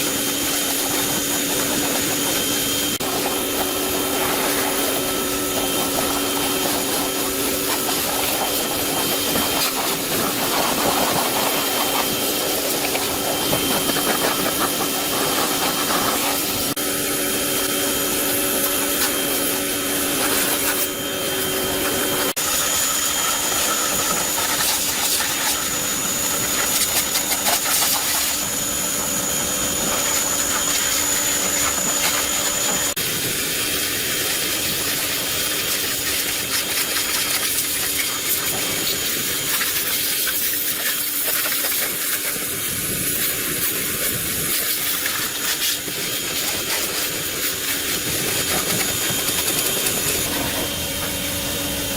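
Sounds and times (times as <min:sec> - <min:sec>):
power tool motor running: 0:00.0 - 0:51.9.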